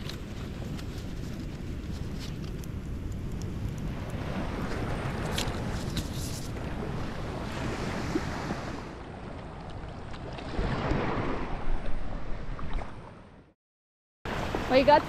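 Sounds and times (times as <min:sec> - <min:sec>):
sea washing at shoreline: 0:00.0 - 0:13.3, 0:14.3 - 0:15.0.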